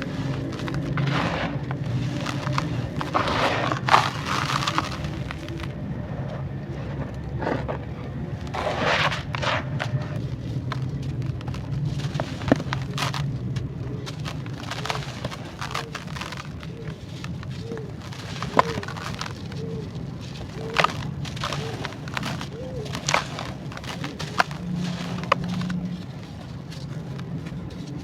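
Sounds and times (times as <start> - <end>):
clay crunching and crumbling: 0.0 - 28.0.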